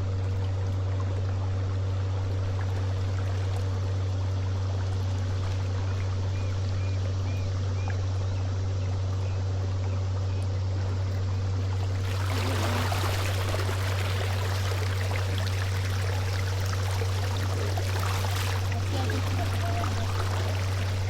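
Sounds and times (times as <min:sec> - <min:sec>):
water splashing and trickling: 0:00.0 - 0:07.1, 0:09.6 - 0:21.0
steady low hum: 0:00.0 - 0:21.0.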